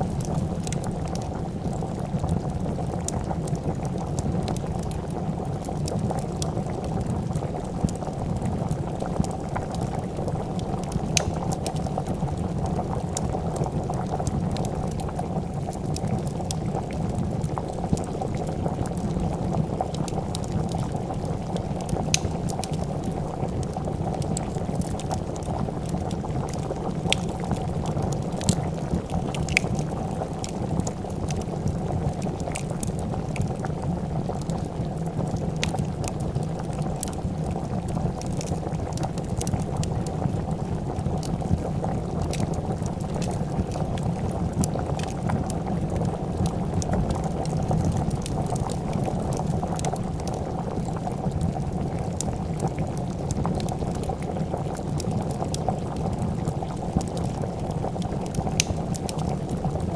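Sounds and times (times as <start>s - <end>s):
soup bubbling in a pot: 0.0s - 59.9s
wood fire crackling and popping: 0.0s - 59.9s.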